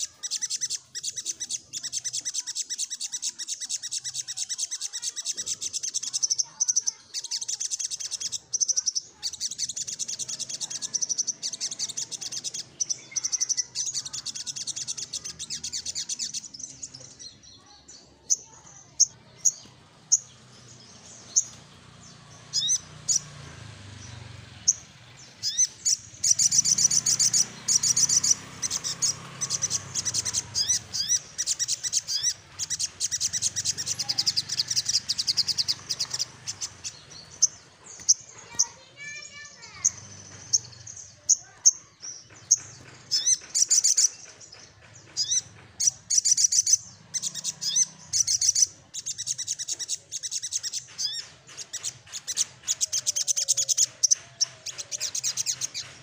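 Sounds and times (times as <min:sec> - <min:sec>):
bird singing high trill: 0:00.0 - 0:56.0.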